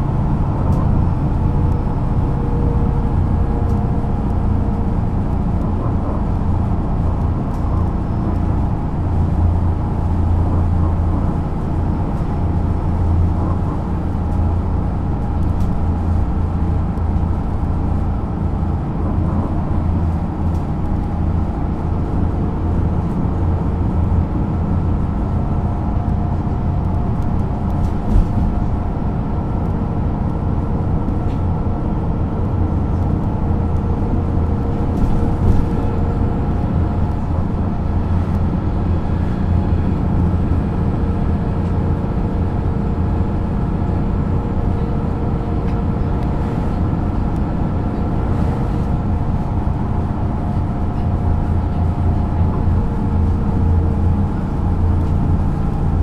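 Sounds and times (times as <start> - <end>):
bus diesel engine droning: 0.0 - 56.0.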